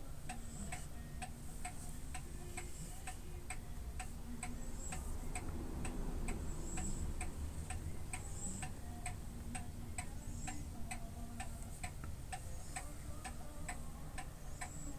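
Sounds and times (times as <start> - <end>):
low steady rumble: 0.0 - 14.9
steady ticking: 0.0 - 14.9.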